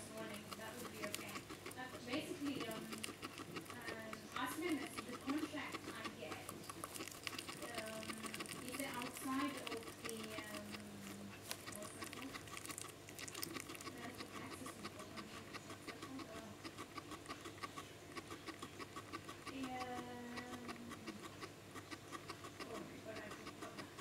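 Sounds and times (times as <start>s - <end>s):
guinea pig chewing hay: 0.0s - 24.0s.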